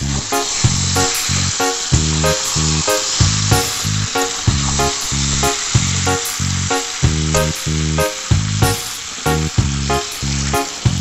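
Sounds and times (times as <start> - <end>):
background music with steady beat: 0.0 - 11.0
curry sizzling in a frying pan: 0.0 - 11.0.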